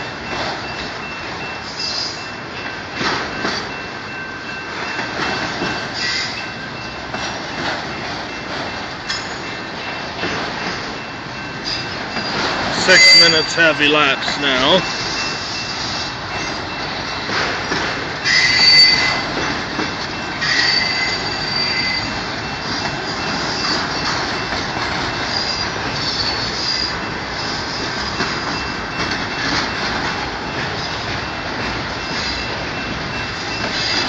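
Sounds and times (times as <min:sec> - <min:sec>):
freight train rumbling: 0:00.0 - 0:34.0
steel wheels squealing on rails: 0:00.0 - 0:34.0.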